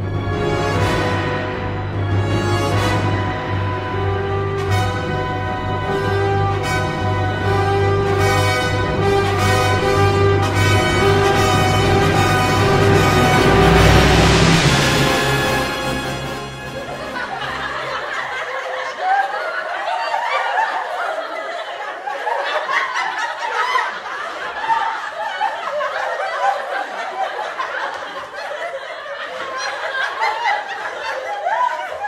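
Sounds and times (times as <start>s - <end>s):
group of people laughing: 5.8s - 32.0s.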